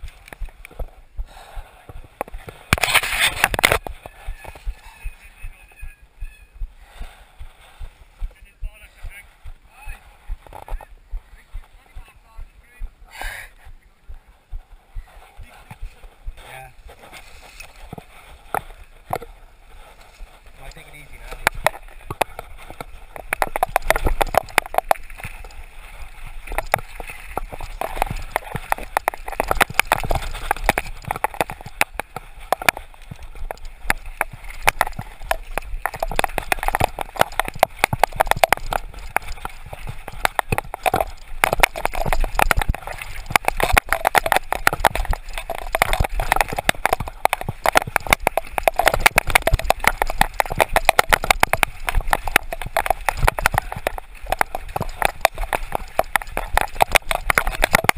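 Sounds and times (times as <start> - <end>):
bike clattering over rough trail: 0.0 - 6.2, 14.5 - 57.9.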